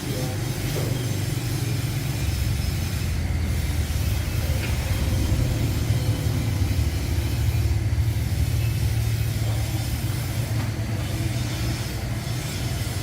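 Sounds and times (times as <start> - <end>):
machine rumbling: 0.0 - 13.0.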